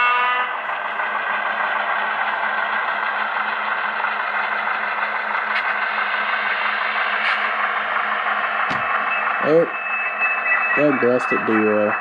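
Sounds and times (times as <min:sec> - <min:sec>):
model train engine sound: 0:00.0 - 0:12.0.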